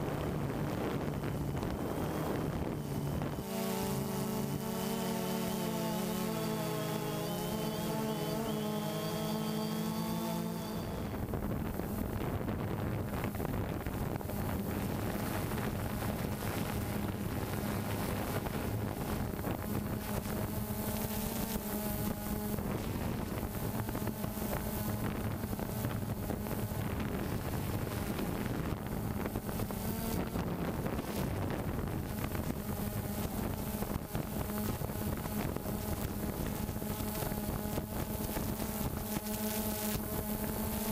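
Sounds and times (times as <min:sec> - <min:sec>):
quadcopter propellers humming: 0:00.0 - 0:40.9
wind rushing over microphone: 0:00.0 - 0:40.9.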